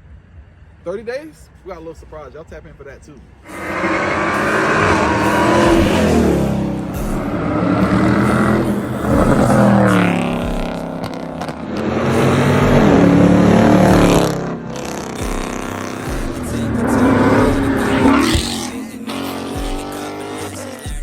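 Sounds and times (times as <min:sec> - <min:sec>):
car exhaust revving: 0:03.3 - 0:21.0.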